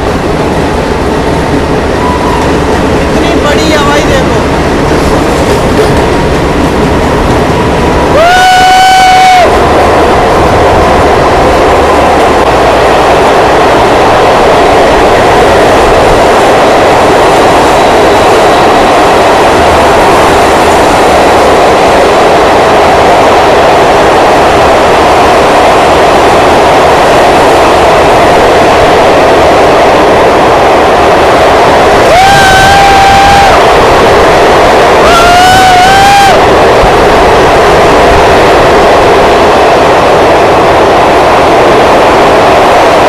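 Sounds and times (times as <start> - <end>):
train wheel and track noise: 0.0 - 43.0.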